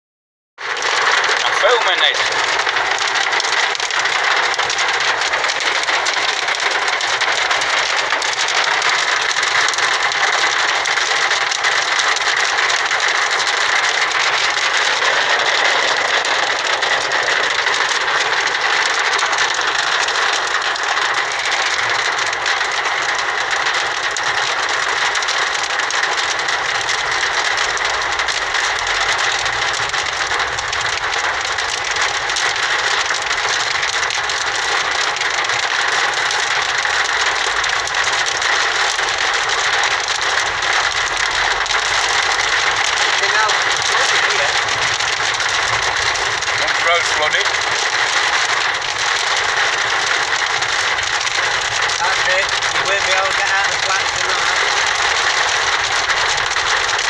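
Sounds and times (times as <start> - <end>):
heavy hail clattering: 0.6 - 57.0.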